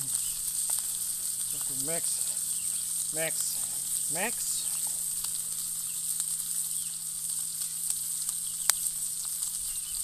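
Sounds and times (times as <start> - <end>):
fish sizzling in a skillet: 0.0 - 10.0
small crackles: 0.0 - 10.0.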